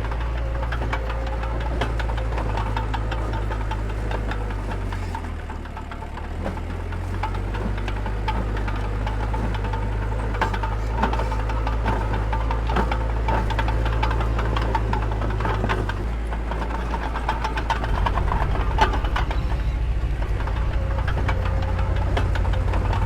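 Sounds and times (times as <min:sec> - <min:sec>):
diesel engine running: 0:00.0 - 0:23.0
metallic clanks and rattles: 0:00.0 - 0:23.0.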